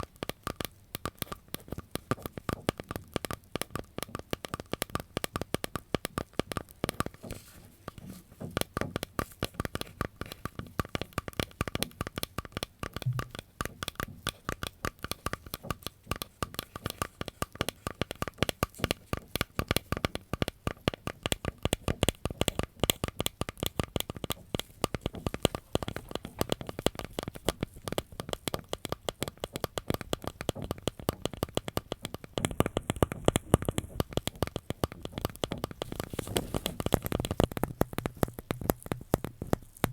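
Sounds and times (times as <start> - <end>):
crackles and taps at microphone: 0.0 - 39.9.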